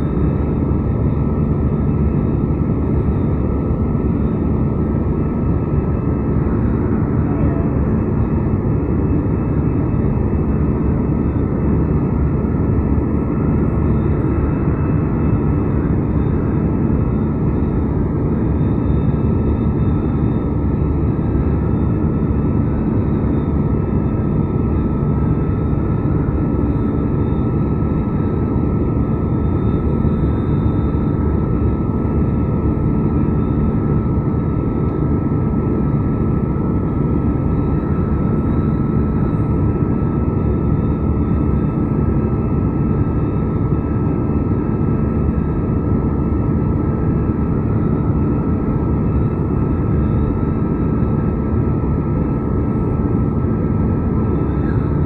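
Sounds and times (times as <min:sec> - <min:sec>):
faint steady whine: 0:00.0 - 0:55.0
jet engine drone: 0:00.0 - 0:55.0.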